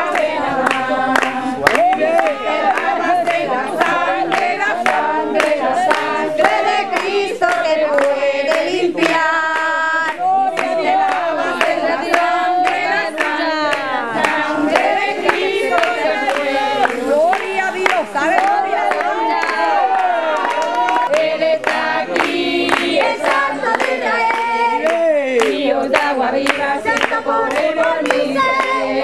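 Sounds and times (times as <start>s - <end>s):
congregation singing: 0.0s - 29.0s
rhythmic hand clapping: 0.0s - 29.0s.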